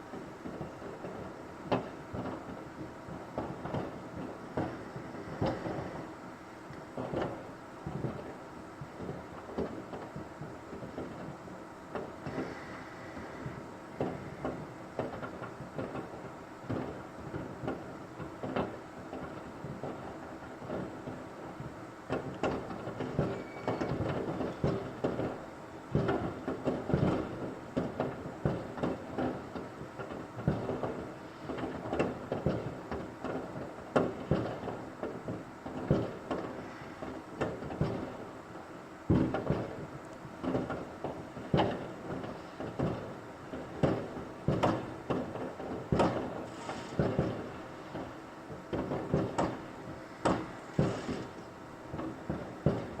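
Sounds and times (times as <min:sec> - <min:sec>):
fireworks exploding: 0:00.1 - 0:21.6, 0:22.2 - 0:39.8, 0:40.4 - 0:53.0
distant fireworks bangs: 0:00.1 - 0:53.0.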